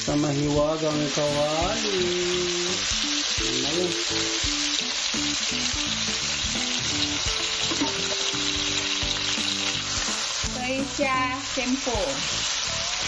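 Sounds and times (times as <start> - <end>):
background music: 0.0 - 13.0
paste sizzling in hot oil: 0.0 - 13.0.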